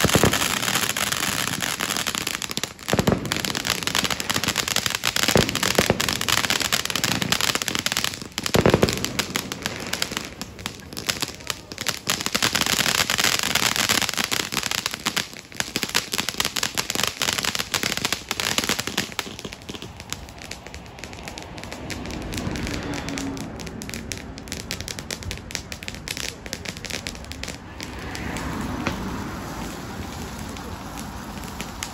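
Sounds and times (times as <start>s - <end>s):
firework bang: 0.0s - 31.9s
firework fountain crackling: 0.0s - 31.9s.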